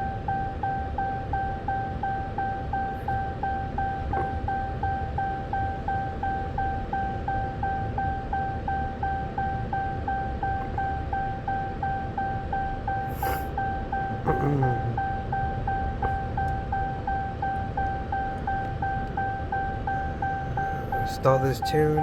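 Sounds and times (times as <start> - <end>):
car warning chime beeping: 0.0 - 22.0
steady low hum: 0.3 - 22.0.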